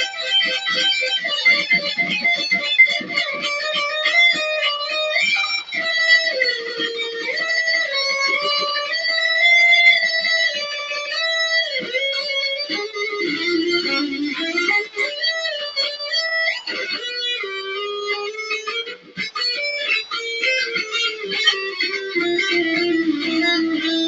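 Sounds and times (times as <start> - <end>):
electric guitar shredding: 0.0 - 24.0.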